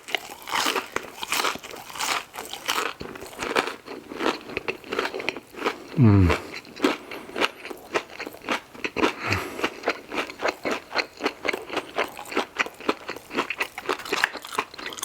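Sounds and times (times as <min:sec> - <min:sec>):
chewing crunchy food: 0:00.0 - 0:15.0.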